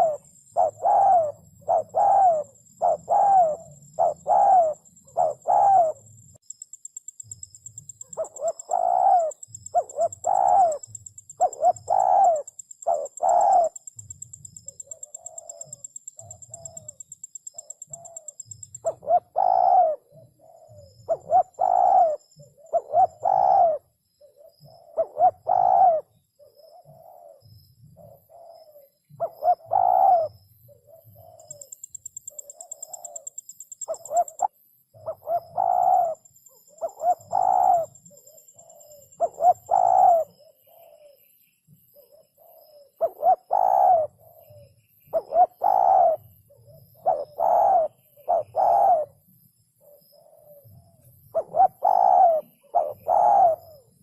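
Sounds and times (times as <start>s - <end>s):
dove cooing: 0.0s - 6.1s, 7.2s - 41.3s, 41.9s - 49.2s, 49.8s - 54.0s.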